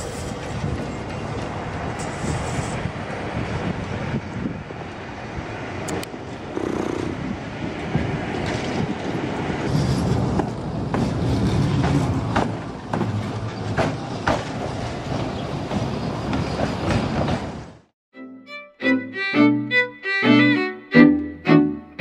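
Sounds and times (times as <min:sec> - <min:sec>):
tram rumbling past: 0:00.0 - 0:17.9.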